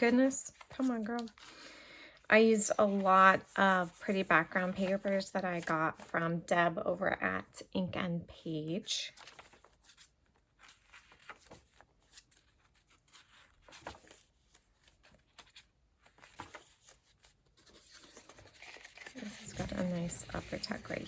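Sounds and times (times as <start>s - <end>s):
paper pages rustling: 0.0s - 1.8s, 2.4s - 6.2s, 9.1s - 21.0s.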